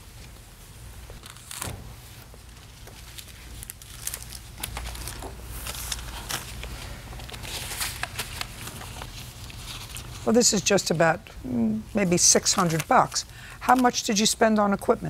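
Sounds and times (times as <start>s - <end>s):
paper receipts rustling: 1.1s - 11.1s, 11.9s - 15.0s.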